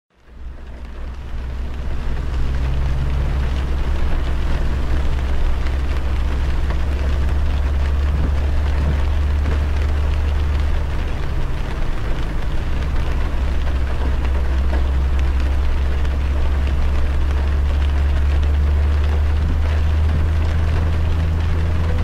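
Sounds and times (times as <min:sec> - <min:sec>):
rain striking a car: 0:00.1 - 0:22.0
car driving drone: 0:00.2 - 0:22.0.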